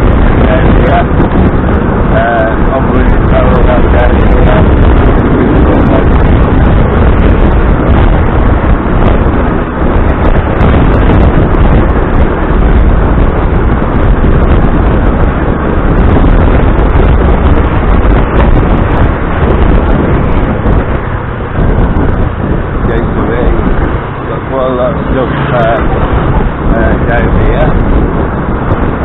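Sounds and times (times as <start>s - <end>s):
scooter engine and road noise: 0.0s - 29.0s
wind buffeting microphone: 0.0s - 29.0s.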